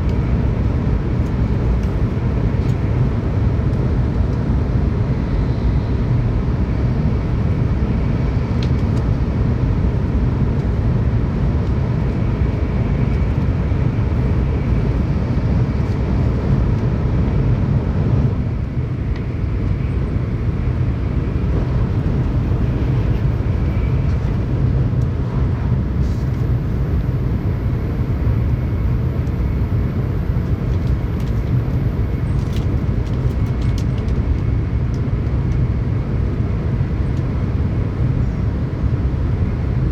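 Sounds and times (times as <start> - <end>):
train running noise from inside: 0.0 - 39.9.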